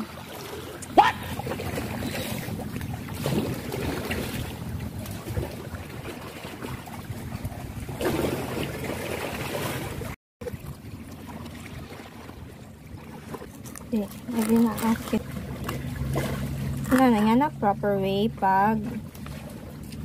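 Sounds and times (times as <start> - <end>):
sea water washing at shore: 0.0 - 17.6.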